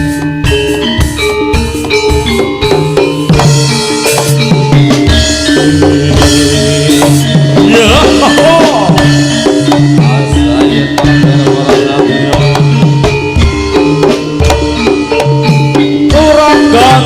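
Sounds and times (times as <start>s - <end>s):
drum kit beat: 0.0s - 17.0s
hand drums: 0.0s - 17.0s
sustained pitched instruments: 0.0s - 17.0s.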